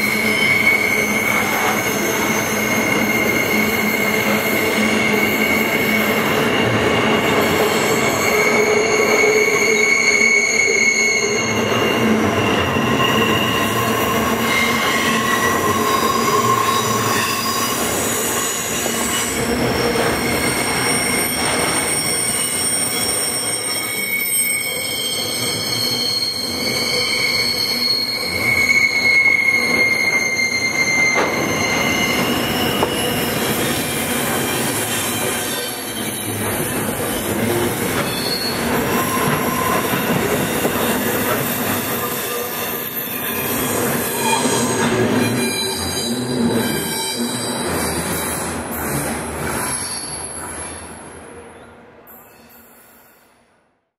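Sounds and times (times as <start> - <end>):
steel wheels squealing on rails: 0.0 - 53.4.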